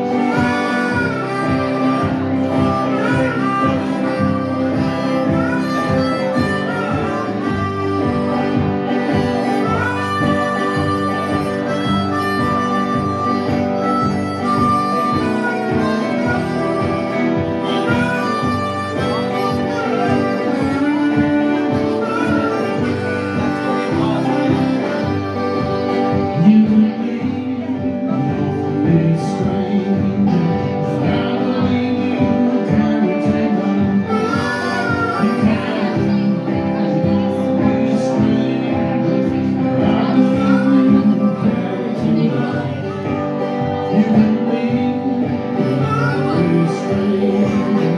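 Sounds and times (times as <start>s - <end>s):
blues band playing: 0.0s - 47.9s
wailing harmonica solo: 0.0s - 47.9s.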